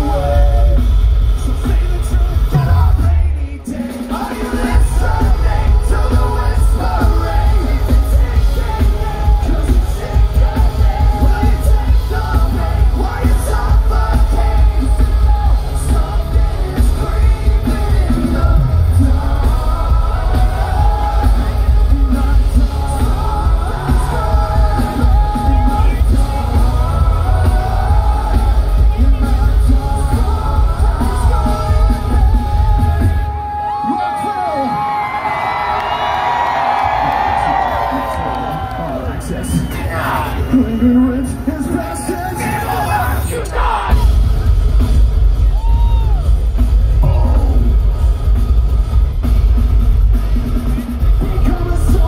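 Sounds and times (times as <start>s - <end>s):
bass guitar: 0.0s - 3.6s, 4.5s - 33.4s, 42.7s - 52.0s
pounding drums: 0.0s - 33.4s, 42.3s - 52.0s
distorted guitars: 0.0s - 52.0s
sung and shouted vocals: 0.0s - 52.0s.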